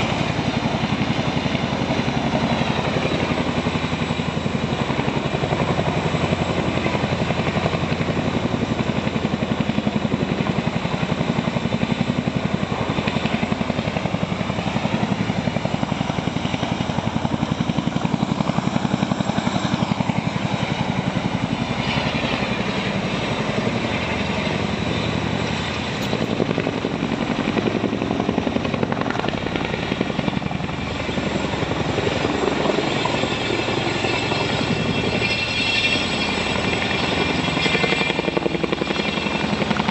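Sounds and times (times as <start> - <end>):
helicopter engine and turbine: 0.0 - 39.9
helicopter rotor chopping: 0.0 - 39.9.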